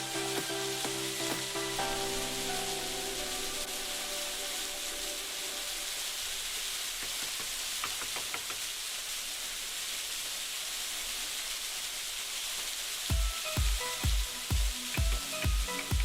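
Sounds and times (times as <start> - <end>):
falling water hissing: 0.0 - 15.9.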